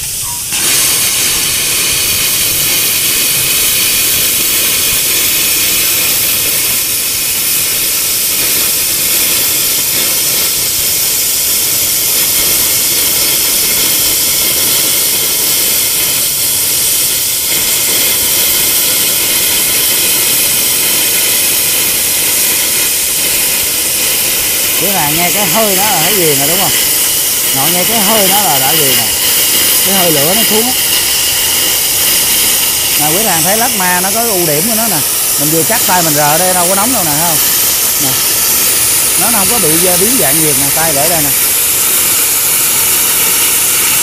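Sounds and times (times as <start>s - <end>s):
plasma cutter hissing: 0.0s - 44.0s.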